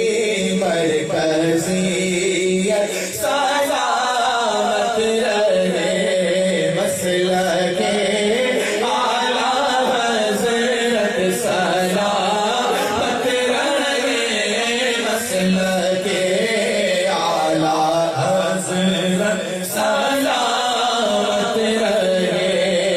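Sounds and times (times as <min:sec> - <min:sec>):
person chanting ornamented melody: 0:00.0 - 0:22.9.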